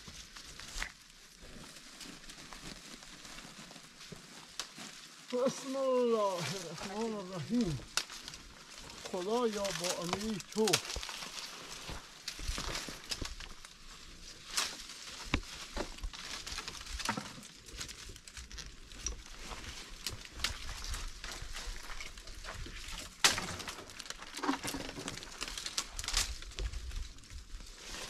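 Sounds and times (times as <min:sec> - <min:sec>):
branches snapping and creaking: 0:00.0 - 0:28.0
leaves rustling: 0:00.0 - 0:28.0.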